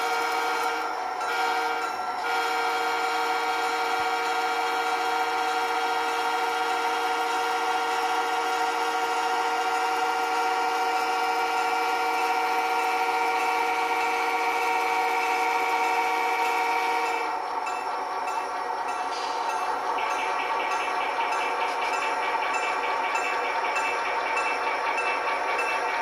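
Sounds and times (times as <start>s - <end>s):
model locomotive buzzing drone: 0.0s - 26.0s.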